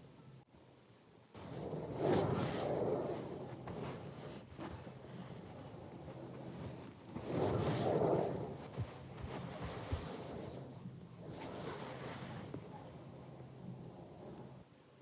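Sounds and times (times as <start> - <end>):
heavy wind gusting: 1.4 - 14.6.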